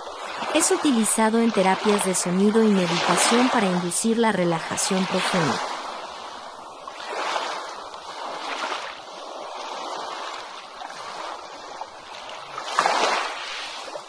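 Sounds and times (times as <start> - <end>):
ocean waves breaking on beach: 0.0 - 14.0.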